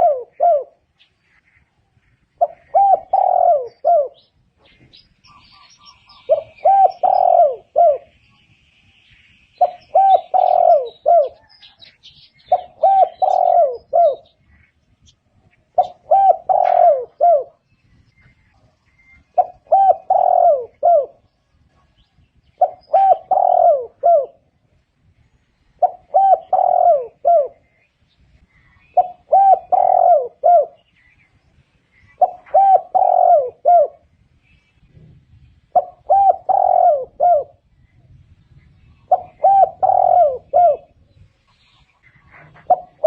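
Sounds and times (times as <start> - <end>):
dove cooing: 0.0 - 1.4, 2.3 - 8.2, 9.6 - 24.8, 25.7 - 31.1, 31.9 - 34.1, 35.7 - 38.0, 38.7 - 43.0.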